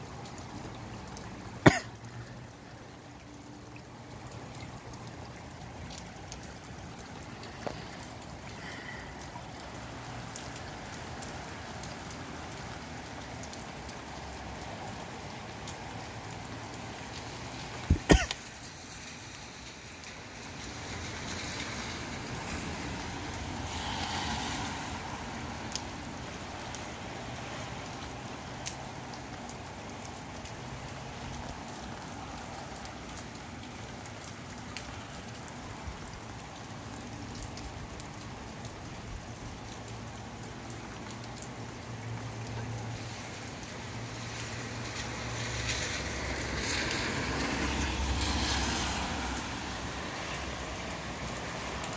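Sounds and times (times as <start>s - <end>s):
steady rain falling: 0.0s - 51.9s
water drips ticking: 0.0s - 51.9s.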